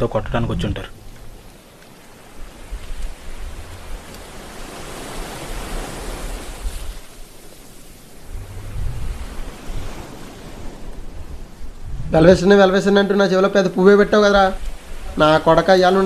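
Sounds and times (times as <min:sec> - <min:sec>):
wind rumbling on microphone: 0:00.0 - 0:16.0
waves breaking on beach: 0:00.6 - 0:16.0.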